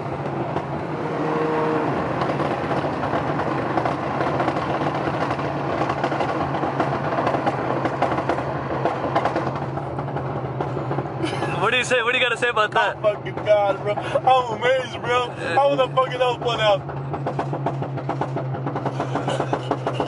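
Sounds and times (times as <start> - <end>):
car exhaust drone: 0.0 - 20.0.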